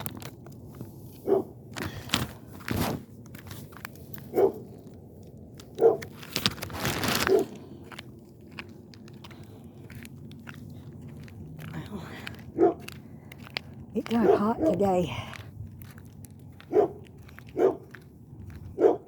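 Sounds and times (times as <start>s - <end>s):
rocks crunching and knocking: 0.0s - 1.0s, 1.7s - 18.9s
footsteps on gravel: 0.1s - 19.0s.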